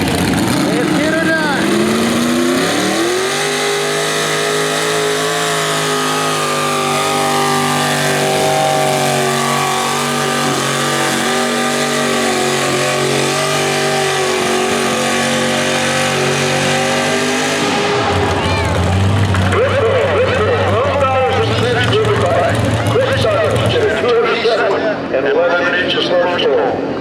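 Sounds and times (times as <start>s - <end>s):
engine at high revs under load: 0.0s - 24.0s.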